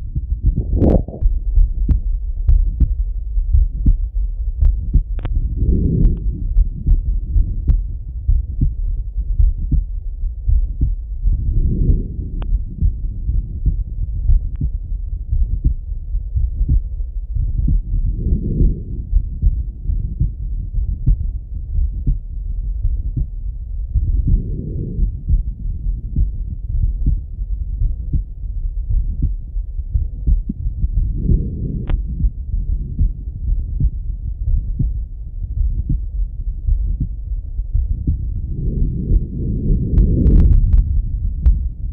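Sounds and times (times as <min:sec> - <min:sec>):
heartbeat through stethoscope: 0:00.0 - 0:41.9.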